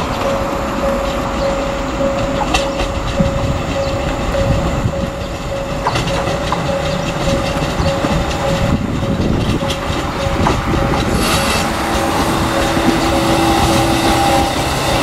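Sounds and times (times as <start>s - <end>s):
constant whine: 0.0s - 15.0s
diesel railcar rumbling: 0.0s - 15.0s
wheels clicking over rail joints: 0.0s - 15.0s.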